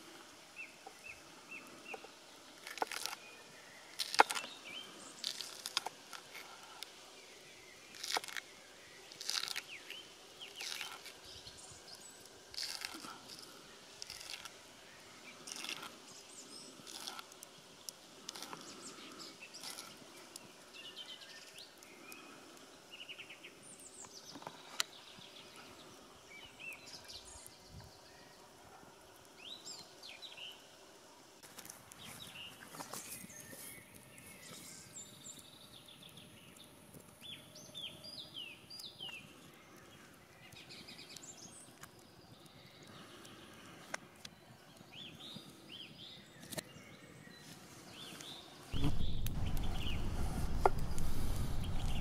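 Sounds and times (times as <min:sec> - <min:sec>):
wild birds chirping: 0:00.0 - 0:31.3, 0:31.9 - 0:52.0
faint outdoor hiss: 0:00.0 - 0:52.0.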